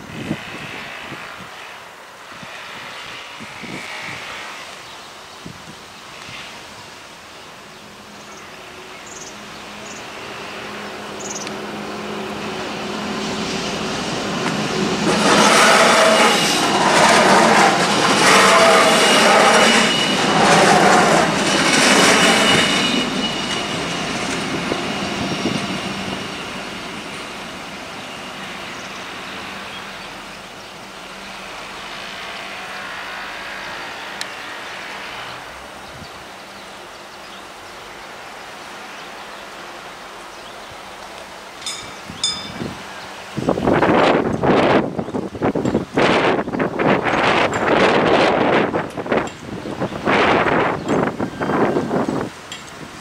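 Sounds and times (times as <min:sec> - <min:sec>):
outdoor background noise: 0:00.0 - 0:53.0
railcar engine hum: 0:00.0 - 0:53.0
train passing noise: 0:00.0 - 0:53.0.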